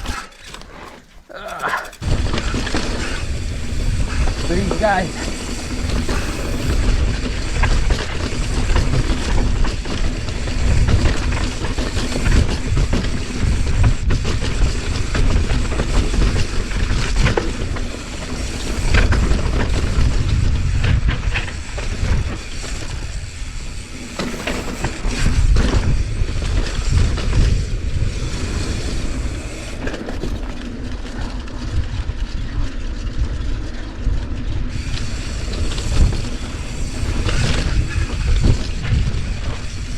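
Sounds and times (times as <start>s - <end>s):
bike rattling and knocking: 0.0s - 39.9s
wind and tyres rumbling: 0.0s - 39.9s.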